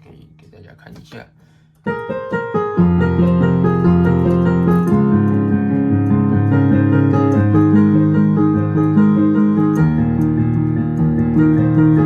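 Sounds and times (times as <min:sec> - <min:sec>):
piano melody: 0:01.8 - 0:12.0
held piano bass notes: 0:01.9 - 0:12.0.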